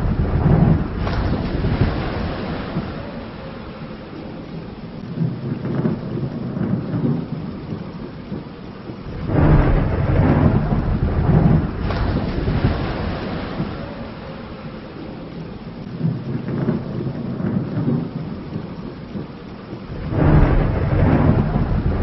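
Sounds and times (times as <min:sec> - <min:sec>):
rain falling: 0:00.0 - 0:22.0
rolling thunder: 0:00.0 - 0:22.0.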